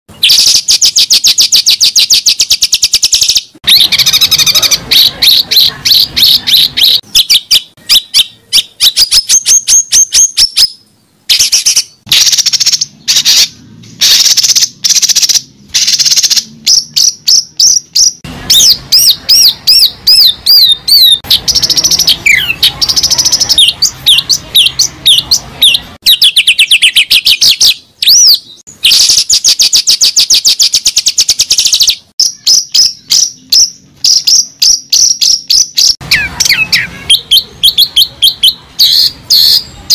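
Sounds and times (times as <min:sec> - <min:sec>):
bird singing: 0:00.1 - 0:39.9.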